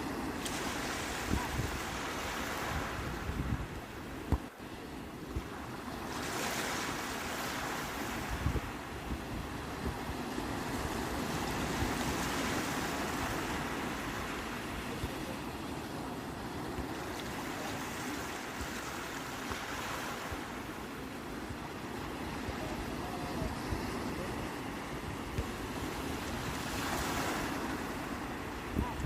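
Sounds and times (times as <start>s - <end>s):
sea waves washing onto shore: 0.0s - 29.0s.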